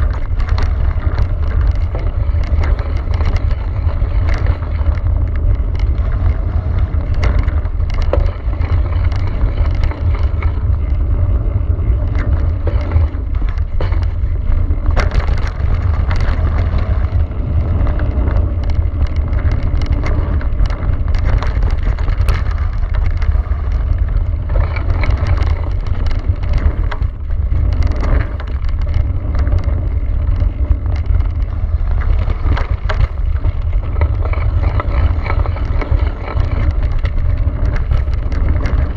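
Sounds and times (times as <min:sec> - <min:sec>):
bike clicks and rattles: 0:00.0 - 0:38.9
bike tyres on gravel trail: 0:00.0 - 0:38.9
wind rumble on microphone: 0:00.0 - 0:38.9.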